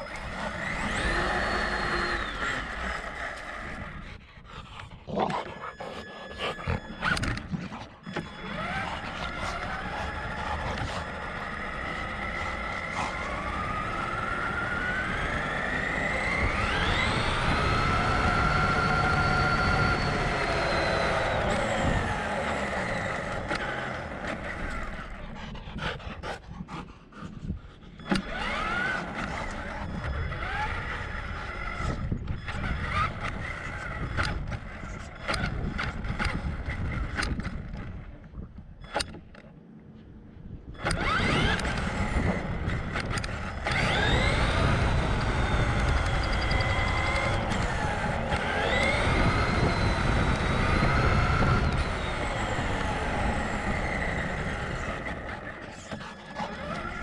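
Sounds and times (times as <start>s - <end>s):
scattered clicks: 0.0s - 25.3s, 27.9s - 39.6s, 40.8s - 57.0s
rc truck motor whining: 0.0s - 26.6s, 27.2s - 39.5s, 40.5s - 57.0s.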